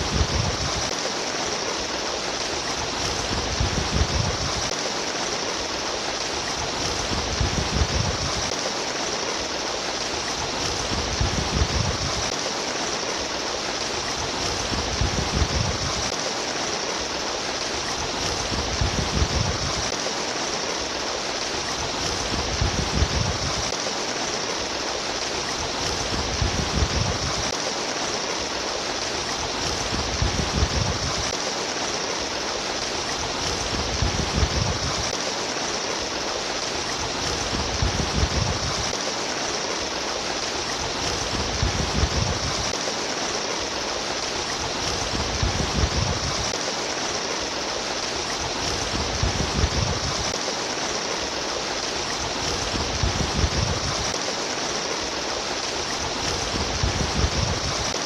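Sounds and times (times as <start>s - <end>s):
water babbling and splashing: 0.0s - 58.0s.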